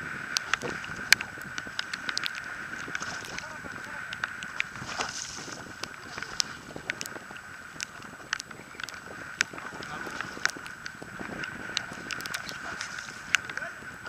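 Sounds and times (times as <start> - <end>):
sea noise: 0.0 - 14.0
water slapping against boat: 0.0 - 14.0
wind: 0.0 - 14.0.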